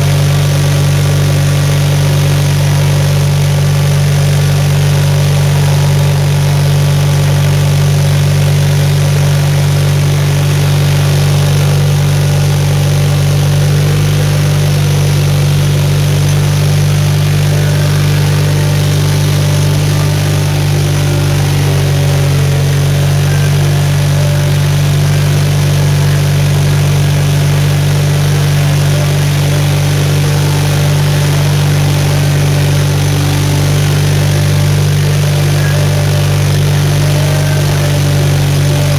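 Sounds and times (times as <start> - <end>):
engine droning: 0.0 - 38.9.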